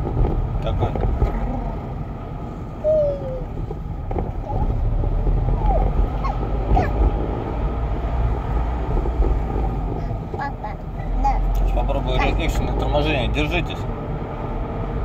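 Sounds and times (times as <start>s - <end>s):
car cabin low rumble: 0.0s - 15.0s.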